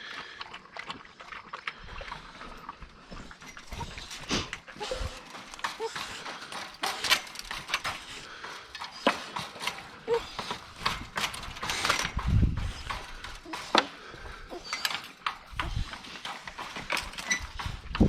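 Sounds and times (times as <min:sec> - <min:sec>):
dogs crunching dry kibble: 0:00.0 - 0:18.0.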